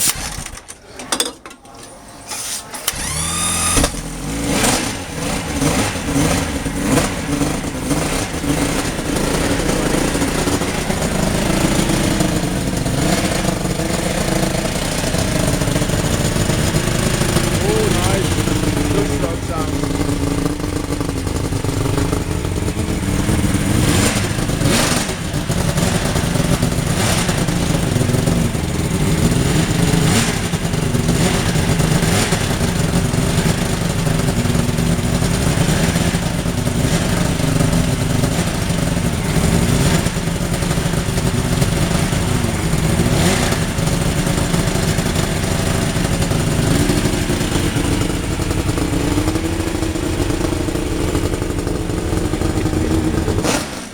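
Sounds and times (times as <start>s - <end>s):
engine sharp cracks: 0.0s - 53.9s
outboard engine revving: 2.7s - 53.9s.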